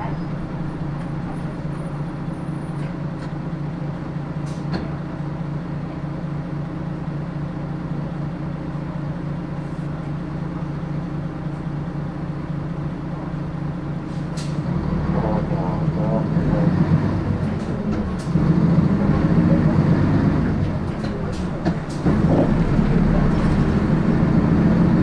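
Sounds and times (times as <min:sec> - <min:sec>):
bus engine idling: 0:00.0 - 0:25.0.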